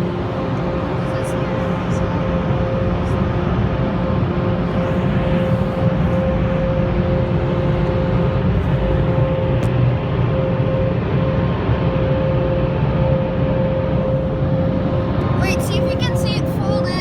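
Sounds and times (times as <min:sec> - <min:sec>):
car wash dryer blowers: 0:00.0 - 0:17.0.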